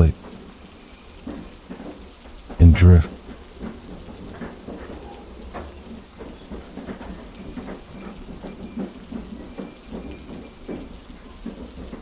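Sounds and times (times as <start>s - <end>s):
rain hissing: 0.0s - 12.0s
soft irregular knocks: 0.0s - 12.0s.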